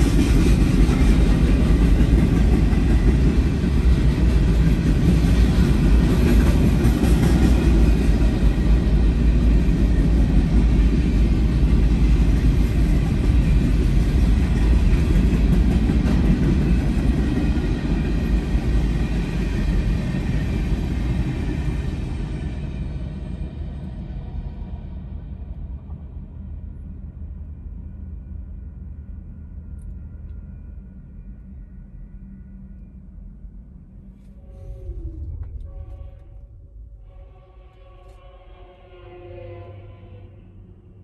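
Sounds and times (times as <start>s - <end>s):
freight train rolling past: 0.0s - 41.0s.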